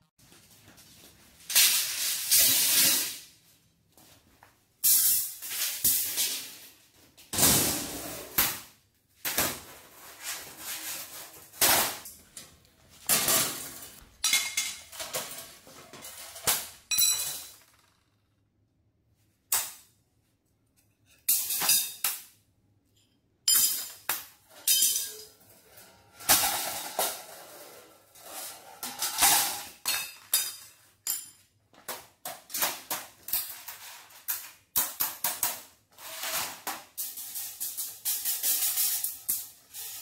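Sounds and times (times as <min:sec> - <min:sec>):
metal clattering on tile floor: 0:00.7 - 0:03.4, 0:04.0 - 0:18.2, 0:20.8 - 0:40.0.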